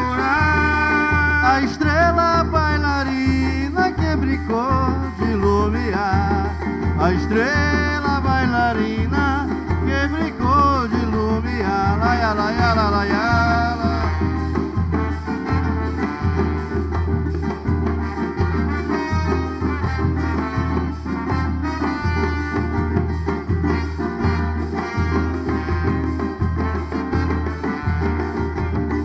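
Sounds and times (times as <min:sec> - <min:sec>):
band playing instrumental music: 0:00.0 - 0:29.0.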